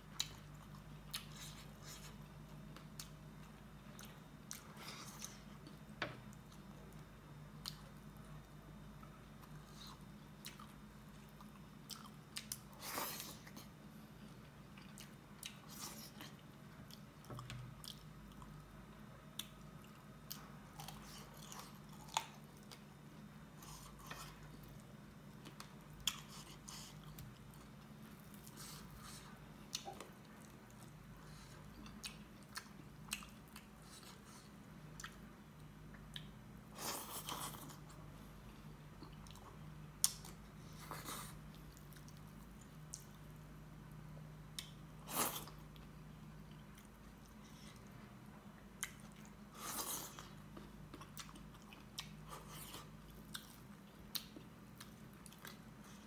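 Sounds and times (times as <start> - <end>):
faint low hum: 0.0 - 56.0.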